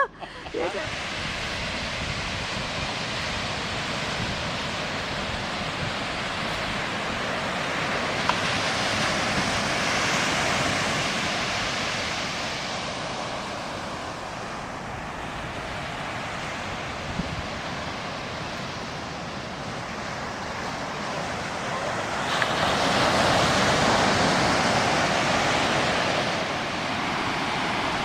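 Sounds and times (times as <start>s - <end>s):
surf breaking on beach: 0.5s - 28.0s
wind on microphone: 0.5s - 28.0s.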